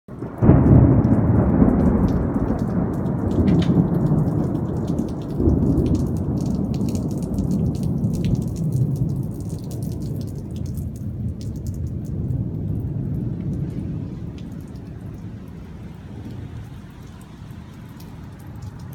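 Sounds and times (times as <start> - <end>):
raindrops ticking: 0.1 - 18.9
thunder crack and rumble: 0.1 - 18.9.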